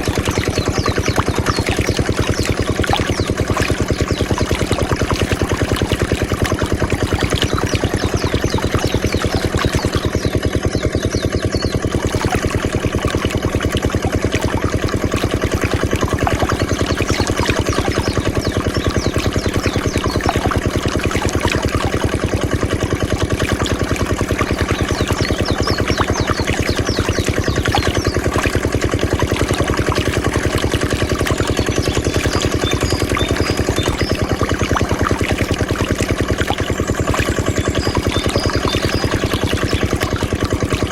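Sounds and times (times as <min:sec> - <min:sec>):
small diesel engine running: 0:00.0 - 0:40.9.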